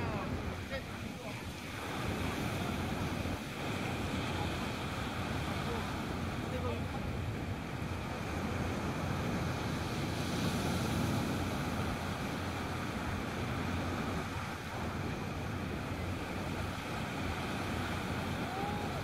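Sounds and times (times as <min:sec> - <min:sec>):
surf breaking on shore: 0:00.0 - 0:19.0
wind rumbling on microphone: 0:00.0 - 0:19.0.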